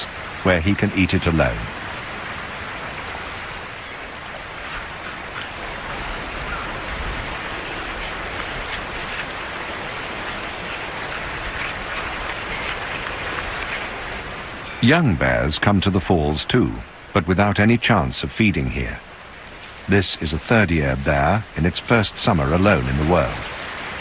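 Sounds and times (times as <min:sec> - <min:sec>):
river water rushing at a falls: 0:00.0 - 0:24.0.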